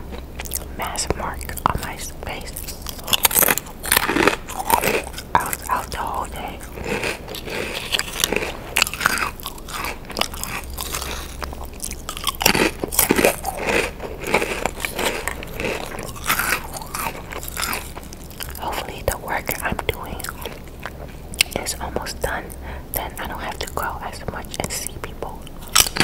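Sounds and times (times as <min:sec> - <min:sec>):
crunching potato chips: 0:00.0 - 0:24.9, 0:25.6 - 0:26.0.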